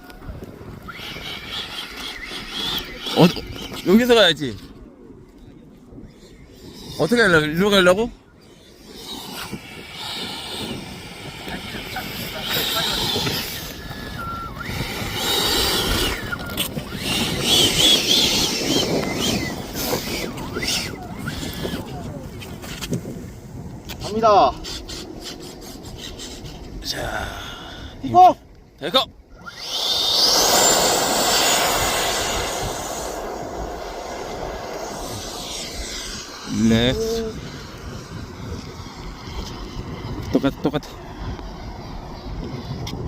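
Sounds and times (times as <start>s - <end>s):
wind noise on microphone: 0.0s - 43.0s
electric fan whining: 6.7s - 43.0s.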